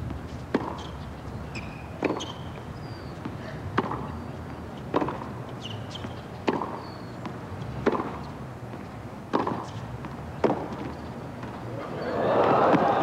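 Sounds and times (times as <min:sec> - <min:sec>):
tennis rackets hitting ball: 0:00.0 - 0:01.0, 0:01.6 - 0:11.8, 0:12.4 - 0:13.0.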